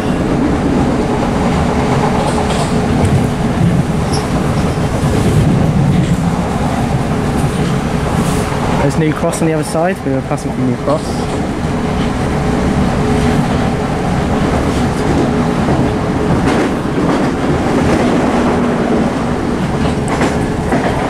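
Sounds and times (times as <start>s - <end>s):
rumble of train wheels on rail: 0.0s - 21.0s.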